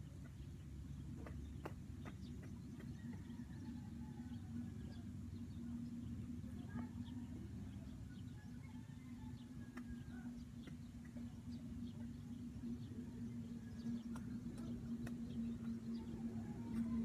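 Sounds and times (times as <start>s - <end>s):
engine humming steadily: 0.0s - 17.0s
faint chirps and ticks: 0.0s - 17.0s.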